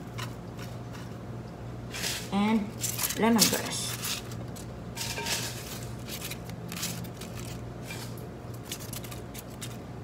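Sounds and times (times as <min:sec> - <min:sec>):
steady low hum: 0:00.0 - 0:10.0
herbs rustling and crackling: 0:01.9 - 0:10.0.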